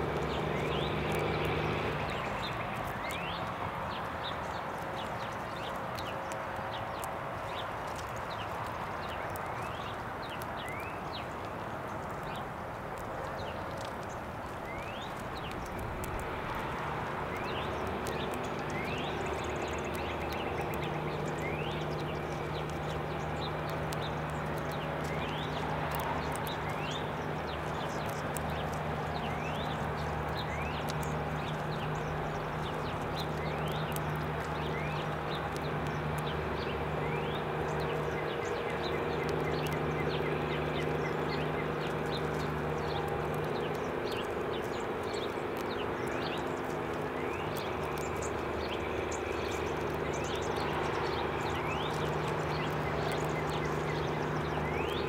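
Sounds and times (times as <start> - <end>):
sharp clicks: 0.0 - 55.0
songbird rising chirp: 0.0 - 55.0.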